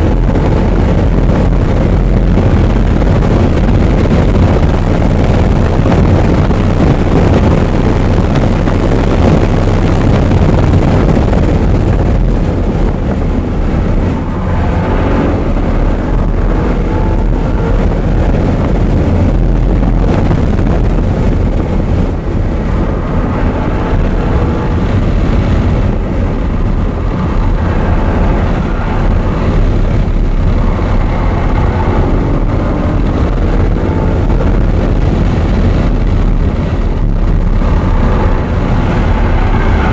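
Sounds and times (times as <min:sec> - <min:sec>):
car engine: 0:00.0 - 0:39.9
road and wind noise: 0:00.0 - 0:39.9.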